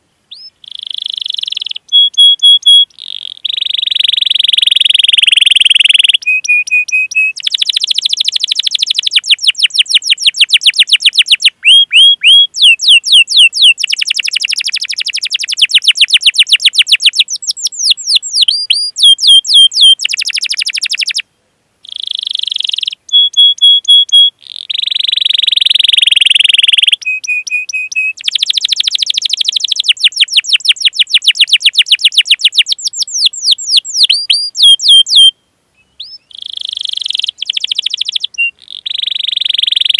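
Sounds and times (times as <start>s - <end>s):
canary singing: 0.3s - 39.9s.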